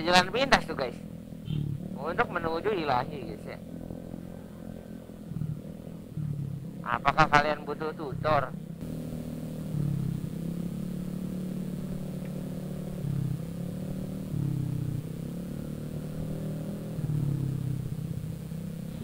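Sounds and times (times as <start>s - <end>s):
scooter engine running: 0.0s - 19.0s.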